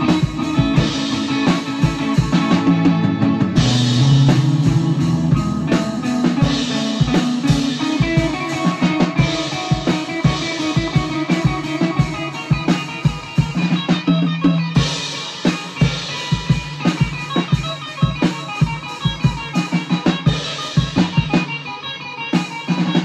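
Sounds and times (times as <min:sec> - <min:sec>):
drum kit: 0:00.0 - 0:23.0
electric guitar: 0:00.0 - 0:23.0.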